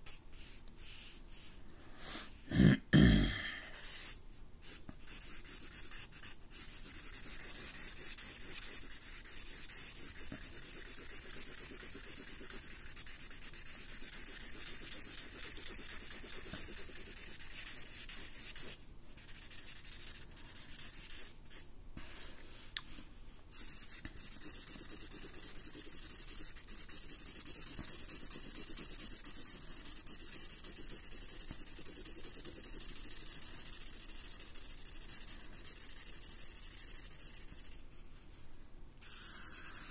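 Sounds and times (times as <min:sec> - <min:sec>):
marker scratching on paper: 0:03.8 - 0:22.3, 0:23.5 - 0:37.8, 0:39.0 - 0:39.9.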